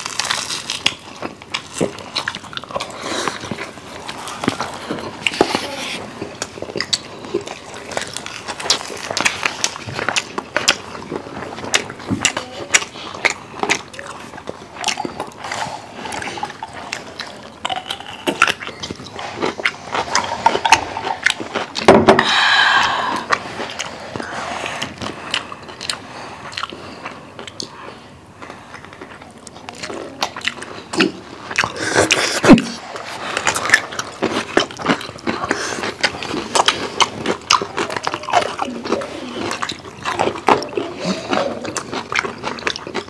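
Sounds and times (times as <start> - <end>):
crunchy chewing: 0.0 - 21.9, 22.7 - 43.0.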